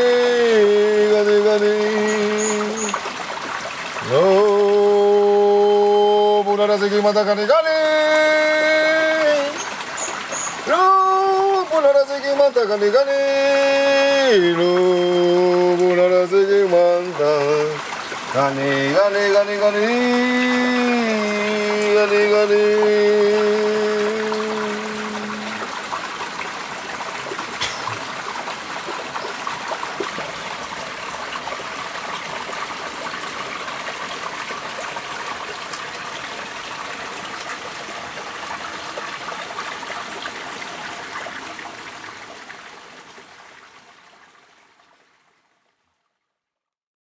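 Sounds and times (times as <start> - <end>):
trickling stream: 0.0 - 46.8.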